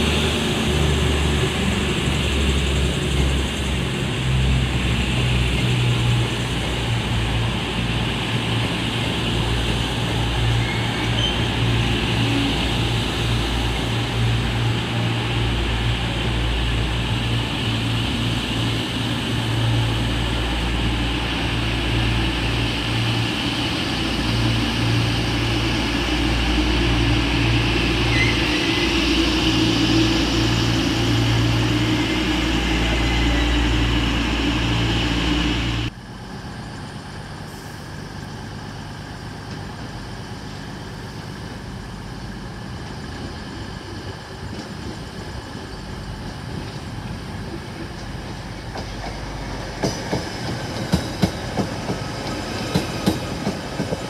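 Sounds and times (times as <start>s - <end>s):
train diesel engines humming: 0.0s - 54.0s.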